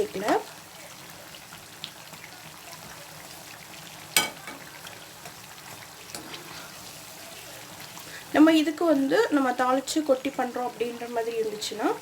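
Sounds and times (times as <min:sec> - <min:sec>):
bread deep-frying in oil: 0:00.0 - 0:12.0.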